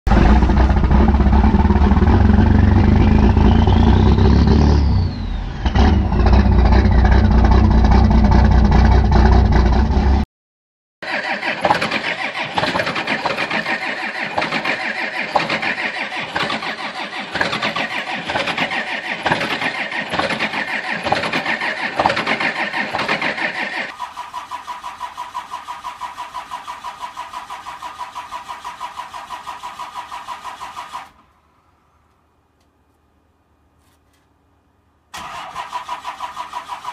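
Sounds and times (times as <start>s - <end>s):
engine whine: 0.1s - 10.2s, 11.0s - 32.8s
diesel truck engine starting: 0.1s - 10.3s, 11.0s - 31.5s, 35.1s - 36.9s.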